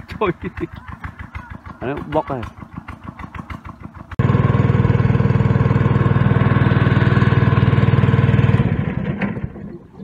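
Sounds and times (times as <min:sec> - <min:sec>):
small boat engine running: 0:00.0 - 0:10.0.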